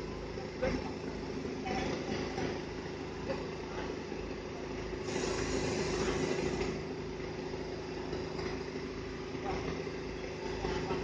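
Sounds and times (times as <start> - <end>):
heavy diesel truck engine running: 0.0 - 11.0.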